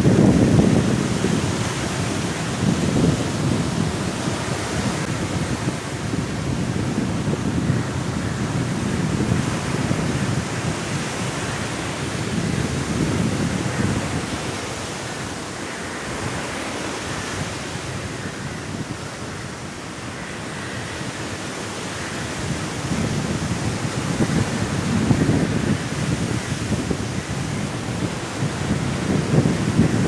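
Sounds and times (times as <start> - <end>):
sea waves breaking on shore: 0.0 - 30.0
strong wind: 0.0 - 30.0.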